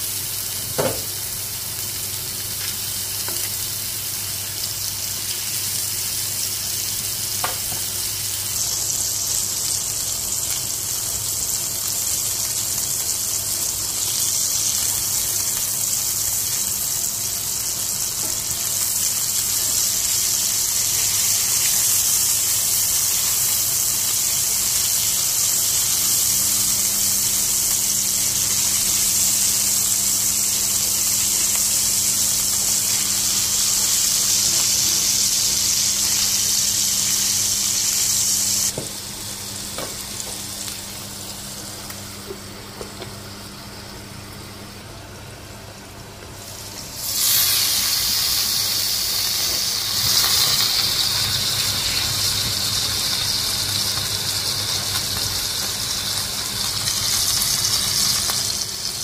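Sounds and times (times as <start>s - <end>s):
meat sizzling in hot oil: 0.0s - 44.8s, 46.4s - 59.0s.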